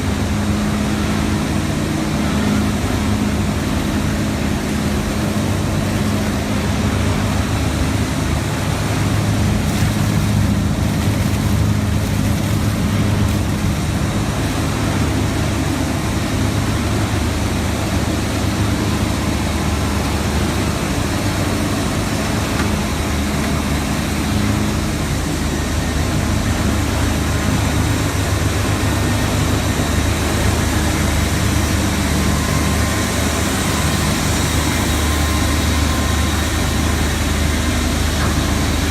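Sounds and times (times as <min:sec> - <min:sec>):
industrial machine hum: 0:00.0 - 0:38.9.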